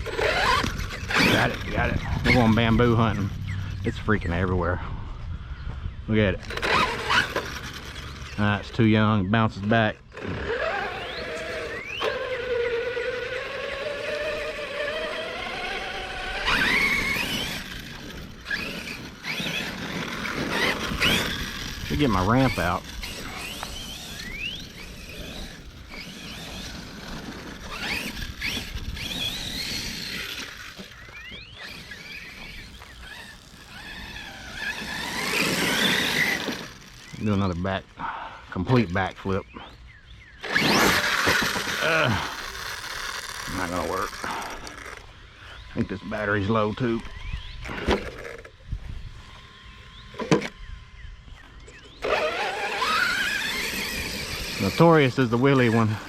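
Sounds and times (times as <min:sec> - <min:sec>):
electric motor whining: 0:00.0 - 0:04.6, 0:05.8 - 0:56.0.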